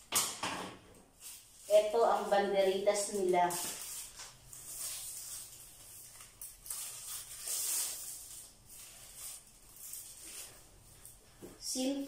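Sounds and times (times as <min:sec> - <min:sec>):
plastic sheeting rustling: 0:01.1 - 0:12.0.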